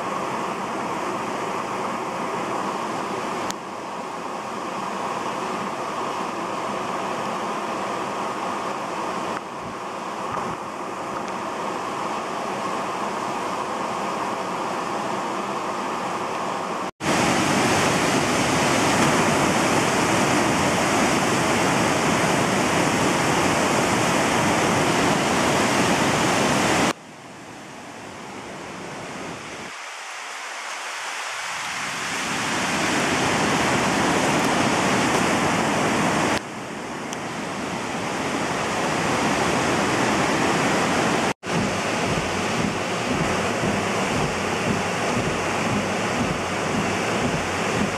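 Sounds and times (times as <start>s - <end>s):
rushing whitewater: 0.0s - 47.9s.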